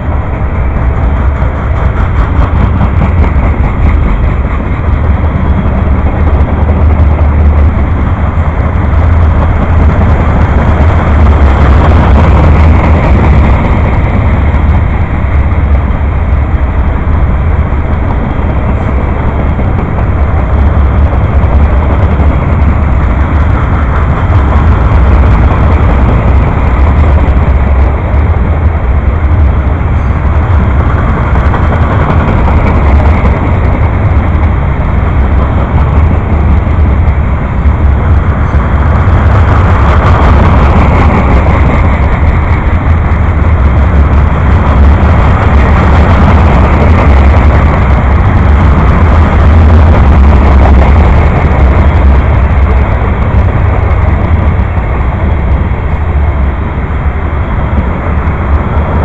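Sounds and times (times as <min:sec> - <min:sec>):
noisy wash of sound: 0:00.0 - 0:59.0
passing train rumbling: 0:00.0 - 0:59.0.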